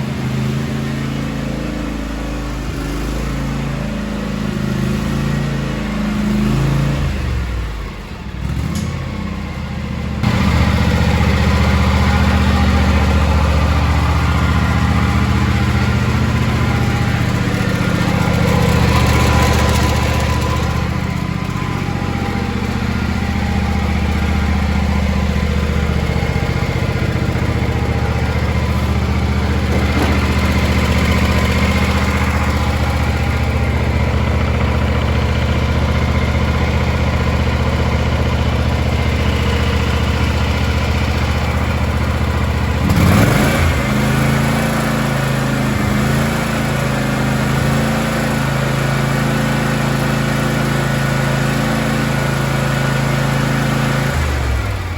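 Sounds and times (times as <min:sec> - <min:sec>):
lawn tractor engine running: 0:00.0 - 0:54.9.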